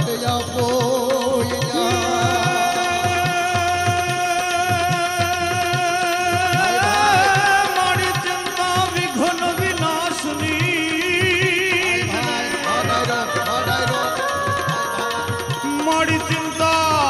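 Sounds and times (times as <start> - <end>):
hand drums: 0.0 - 17.0
wavering melody: 0.0 - 17.0.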